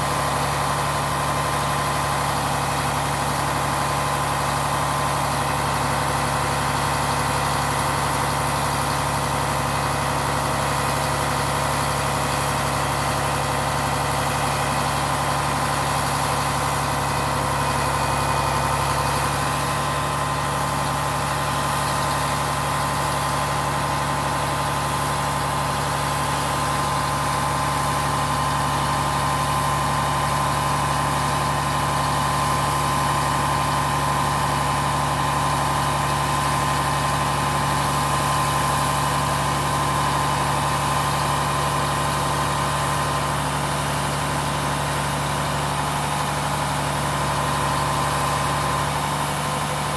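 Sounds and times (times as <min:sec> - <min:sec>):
diesel engine idling: 0:00.0 - 0:49.9
hydraulic pump whine: 0:00.0 - 0:49.9.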